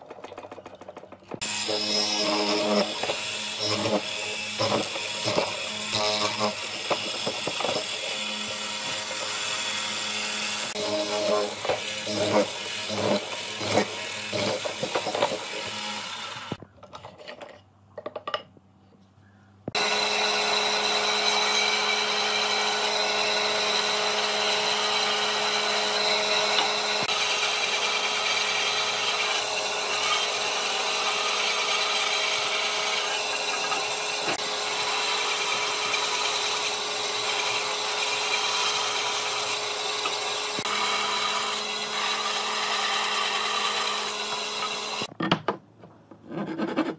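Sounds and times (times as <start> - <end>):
electric power tool humming: 1.4 - 16.6, 19.8 - 45.1.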